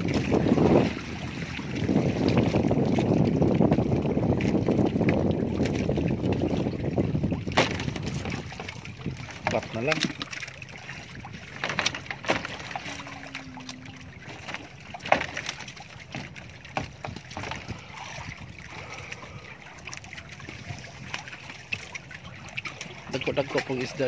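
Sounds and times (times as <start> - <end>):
water sloshing: 0.0 - 24.0.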